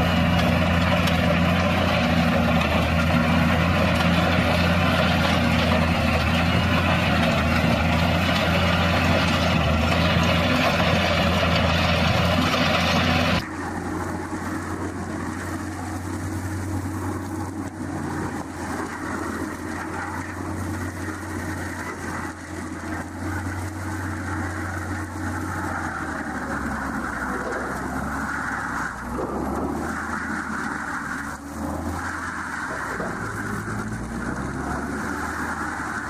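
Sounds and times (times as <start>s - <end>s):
engine droning: 0.0s - 36.0s.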